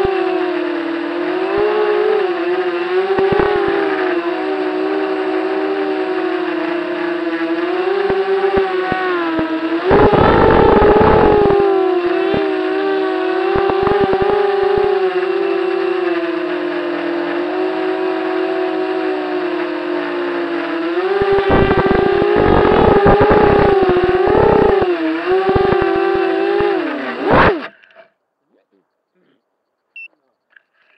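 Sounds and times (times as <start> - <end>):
model airplane motor droning: 0.0 - 27.7.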